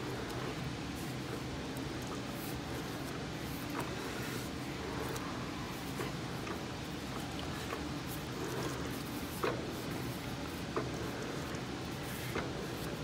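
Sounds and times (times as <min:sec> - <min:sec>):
air-conditioner fan noise: 0:00.0 - 0:13.0.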